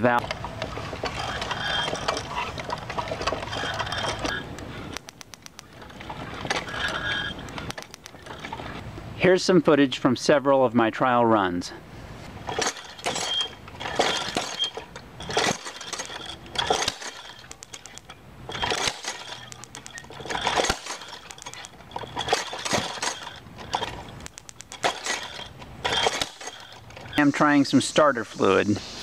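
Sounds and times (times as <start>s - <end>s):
engine parts clanking and rattling: 0.0s - 9.6s, 11.5s - 28.9s.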